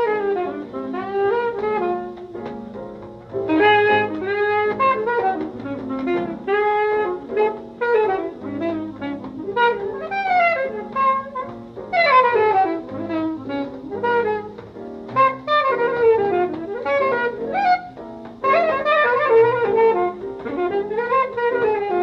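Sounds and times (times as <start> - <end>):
low accompaniment: 0.0 - 22.0
saxophone melody: 0.0 - 22.0.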